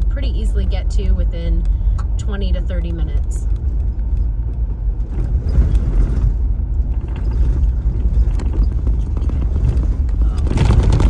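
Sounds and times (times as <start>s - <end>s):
car road noise inside cabin: 0.0s - 11.0s.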